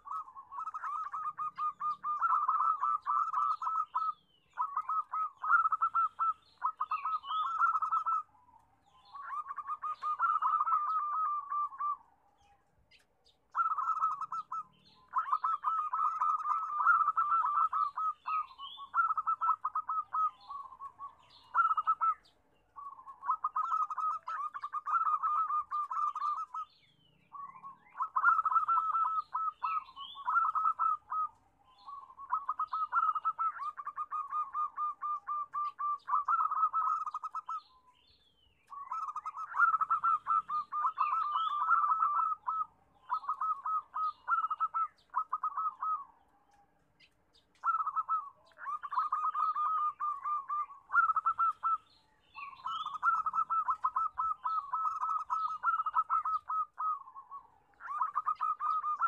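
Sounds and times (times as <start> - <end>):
doves cooing in trills: 0.0 - 37.9, 38.6 - 59.0.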